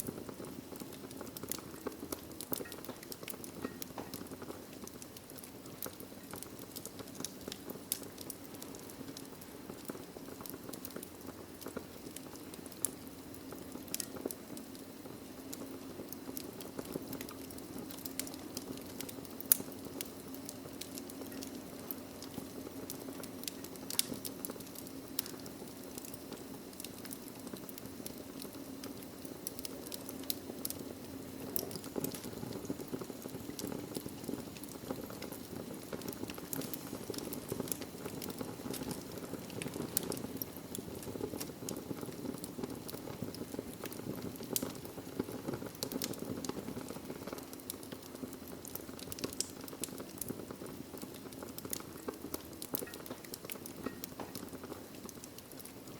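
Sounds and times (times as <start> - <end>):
logs crackling in fireplace: 0.0 - 55.9.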